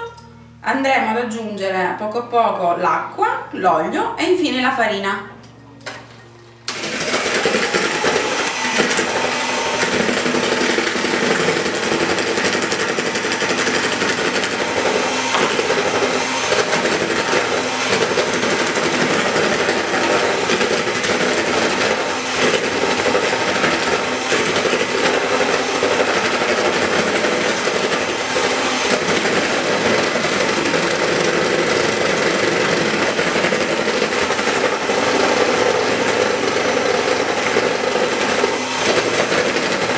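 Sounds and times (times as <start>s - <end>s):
electric hand mixer whisking: 6.7s - 39.9s.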